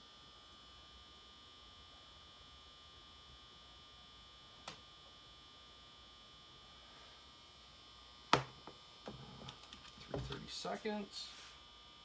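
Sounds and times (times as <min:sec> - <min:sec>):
fluorescent lights buzzing: 0:00.1 - 0:12.0.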